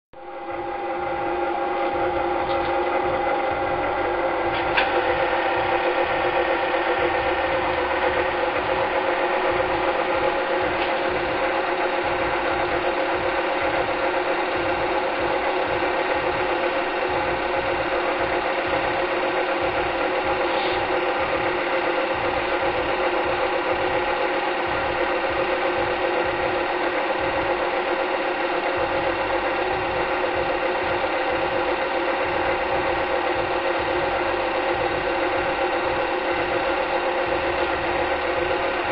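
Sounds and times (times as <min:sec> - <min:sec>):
film projector whirring: 0:00.2 - 0:38.9.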